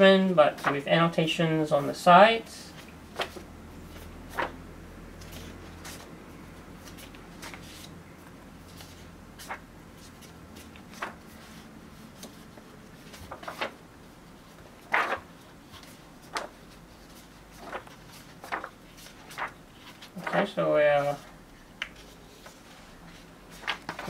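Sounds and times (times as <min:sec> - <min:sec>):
book pages turning: 0:02.7 - 0:04.6, 0:05.2 - 0:06.2, 0:06.8 - 0:24.0.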